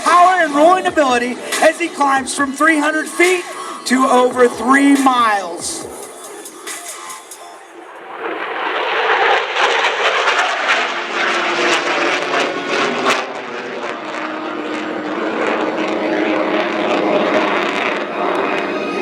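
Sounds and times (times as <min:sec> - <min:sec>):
jet engine roaring past: 0:00.0 - 0:19.0.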